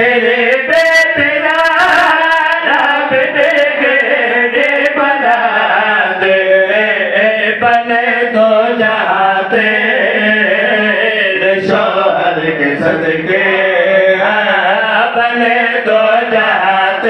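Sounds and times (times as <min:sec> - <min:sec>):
man chanting through microphone: 0:00.0 - 0:17.0.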